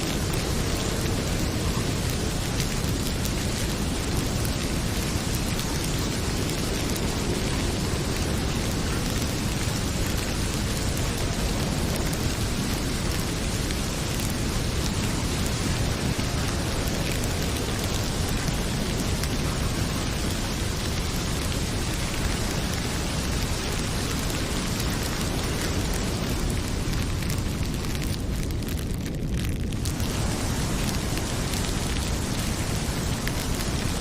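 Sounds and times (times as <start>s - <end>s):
deep rumble: 0.0s - 34.0s
heavy rain pouring: 0.0s - 34.0s
wood fire crackling: 0.0s - 34.0s.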